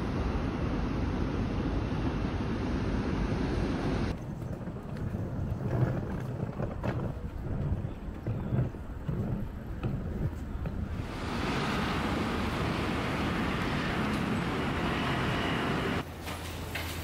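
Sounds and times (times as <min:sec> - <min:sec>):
steady rushing noise: 0:00.0 - 0:16.0
low traffic rumble: 0:00.0 - 0:17.0.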